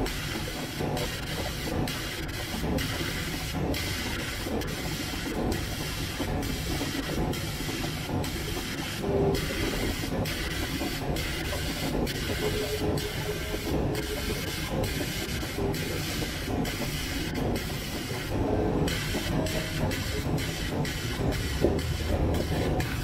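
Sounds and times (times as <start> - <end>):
laser cutter hissing: 0.1 - 23.0.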